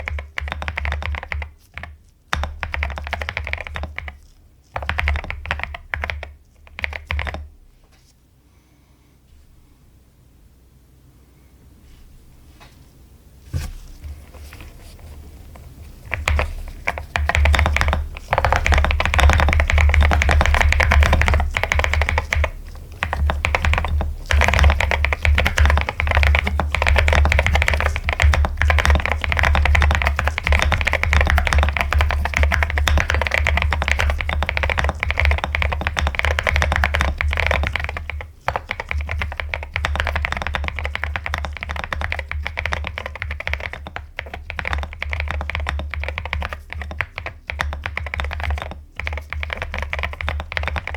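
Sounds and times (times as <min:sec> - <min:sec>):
mechanical keyboard typing: 0:00.0 - 0:07.4, 0:16.0 - 0:50.9.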